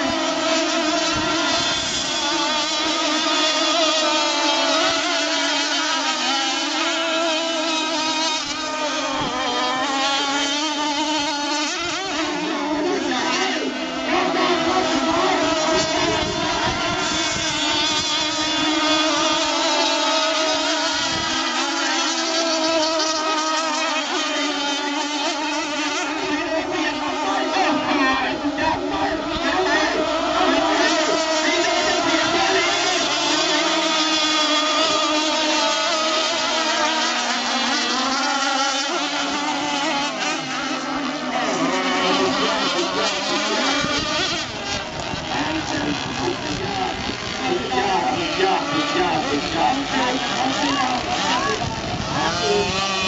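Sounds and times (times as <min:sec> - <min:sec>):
model boat motors buzzing: 0:00.0 - 0:53.0.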